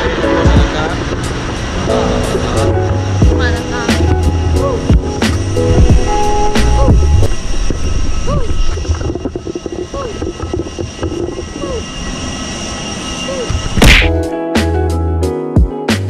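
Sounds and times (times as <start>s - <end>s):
wind noise on microphone: 0.0s - 12.7s, 13.4s - 14.2s
jet airliner whine: 0.0s - 15.4s.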